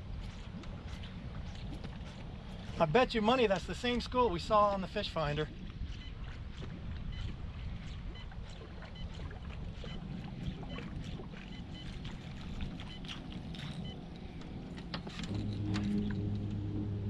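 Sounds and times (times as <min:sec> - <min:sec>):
low steady rumble: 0:00.0 - 0:17.0
water lapping against hull: 0:00.0 - 0:17.0.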